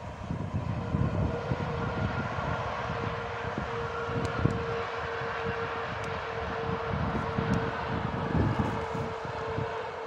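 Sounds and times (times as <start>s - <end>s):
distant train rolling past: 0.0s - 10.0s
wind buffeting microphone: 0.0s - 10.0s.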